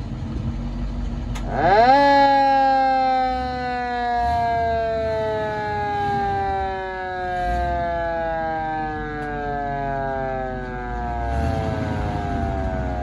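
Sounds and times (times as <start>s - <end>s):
fire truck siren winding down: 1.3s - 13.0s.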